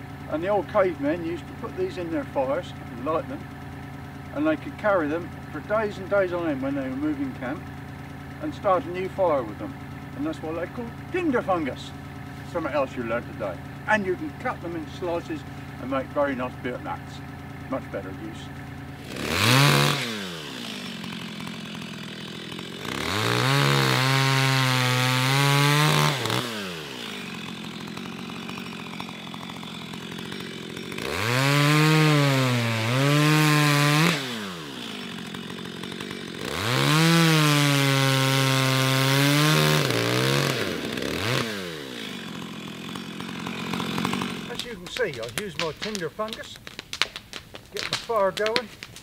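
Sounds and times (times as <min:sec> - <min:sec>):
chainsaw cutting log: 0:00.0 - 0:49.0.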